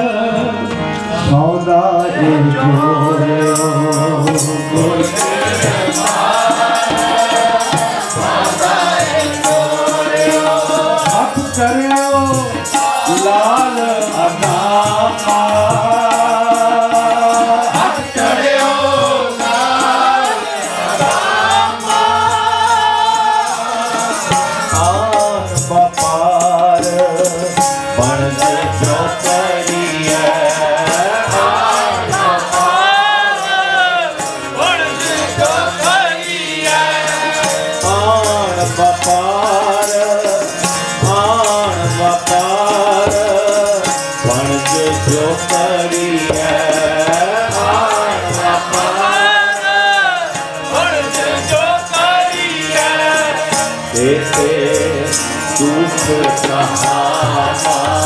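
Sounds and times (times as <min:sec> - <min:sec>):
harmonium: 0:00.0 - 0:58.0
men singing a hymn: 0:00.0 - 0:58.0
tabla rhythm: 0:00.0 - 0:58.0.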